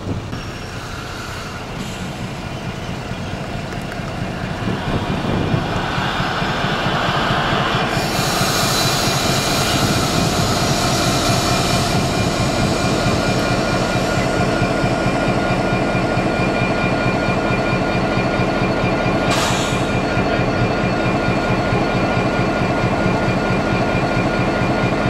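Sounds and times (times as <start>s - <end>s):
diesel locomotive engine running: 0.0s - 25.0s.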